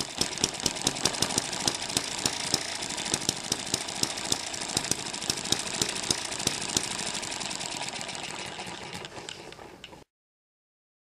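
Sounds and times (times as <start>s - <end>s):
model engine clattering: 0.0s - 10.0s.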